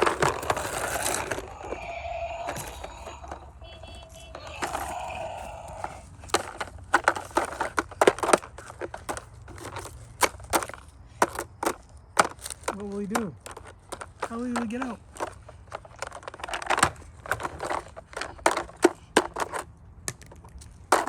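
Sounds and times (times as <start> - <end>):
toys knocking and clattering: 0.0 - 21.0.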